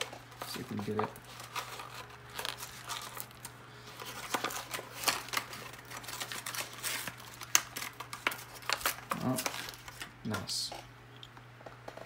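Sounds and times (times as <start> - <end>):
plastic blister pack crinkling: 0.0 - 10.8.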